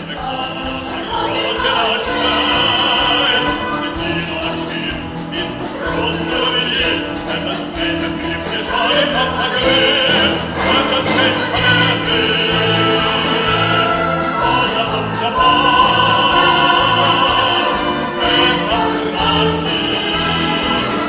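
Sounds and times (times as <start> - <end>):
orchestra playing: 0.0 - 21.0.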